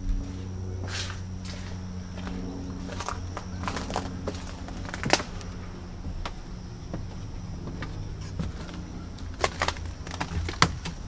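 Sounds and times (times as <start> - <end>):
footsteps on wooden stairs: 0.0 - 11.0
low rumble: 0.0 - 11.0.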